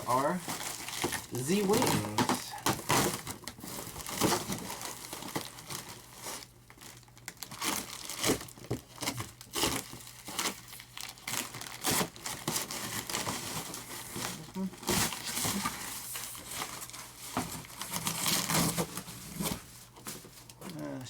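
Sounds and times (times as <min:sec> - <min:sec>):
packaging crinkling and rustling: 0:00.0 - 0:21.0.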